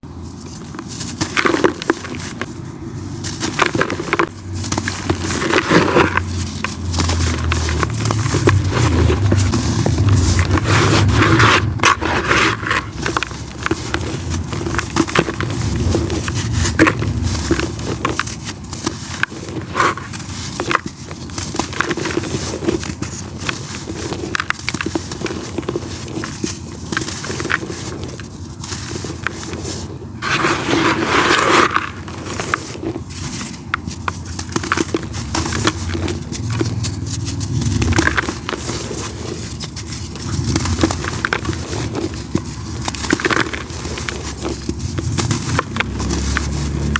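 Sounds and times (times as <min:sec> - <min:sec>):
dirt crumbled by hand: 0:00.1 - 0:46.9.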